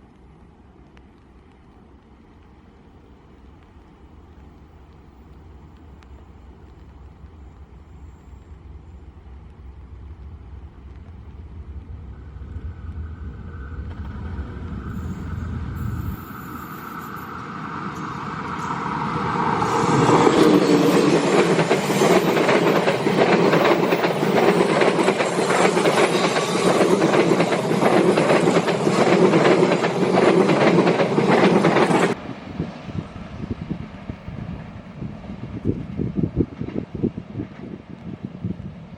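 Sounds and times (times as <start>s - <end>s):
train passing: 2.9s - 38.9s.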